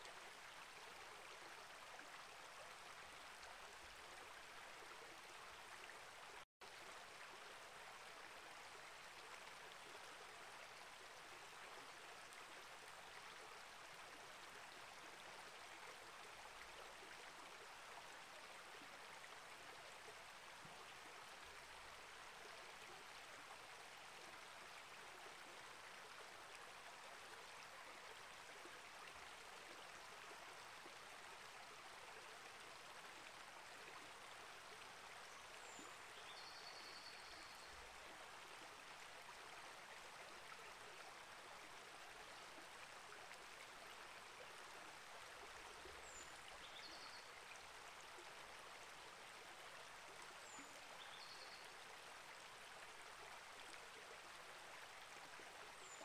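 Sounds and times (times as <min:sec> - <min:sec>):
creek flowing: 0:00.0 - 0:56.0.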